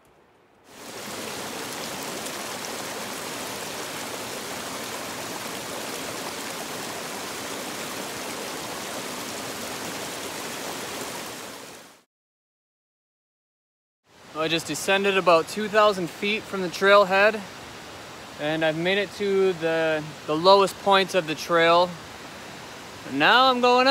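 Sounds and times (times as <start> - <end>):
creek rushing over rocks: 0.7 - 12.0, 14.1 - 23.9.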